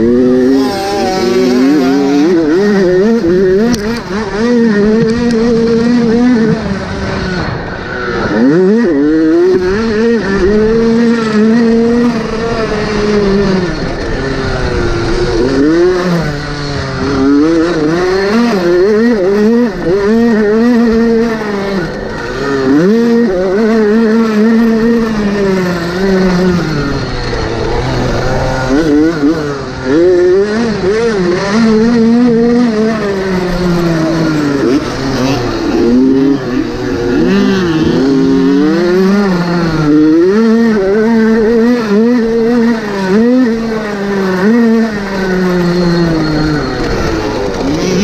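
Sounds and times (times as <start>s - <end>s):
motocross motorcycle engines revving: 0.0s - 48.0s.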